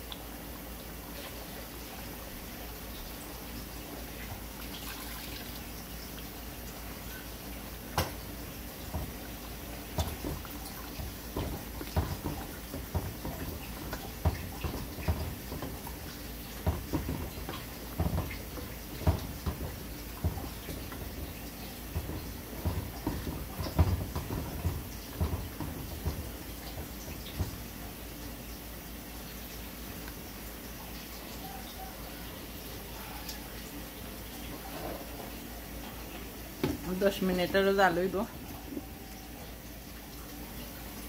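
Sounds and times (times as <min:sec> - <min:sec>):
curry bubbling in a pot: 0:00.0 - 0:37.2.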